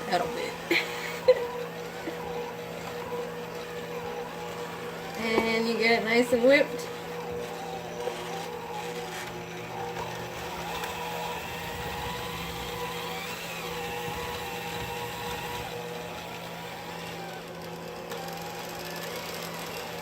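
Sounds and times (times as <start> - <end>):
electric hand mixer running: 0.0 - 20.0.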